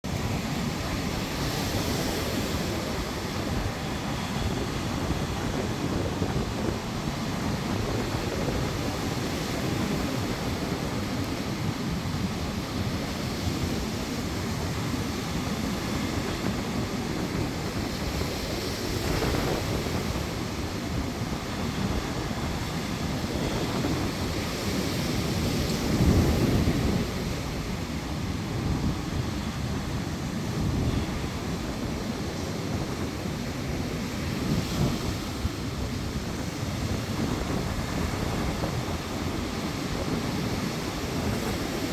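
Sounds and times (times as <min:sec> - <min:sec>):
surf breaking on shore: 0:00.0 - 0:41.9
wind buffeting microphone: 0:00.0 - 0:41.9.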